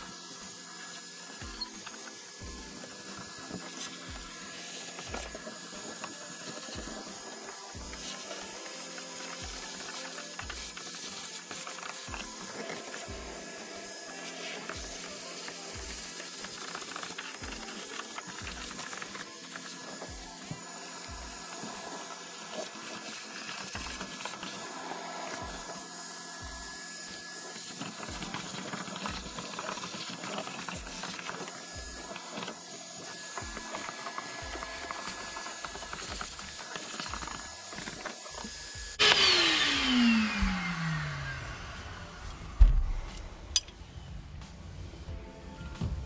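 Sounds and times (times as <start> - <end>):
shop vacuum whine: 0.0 - 44.2.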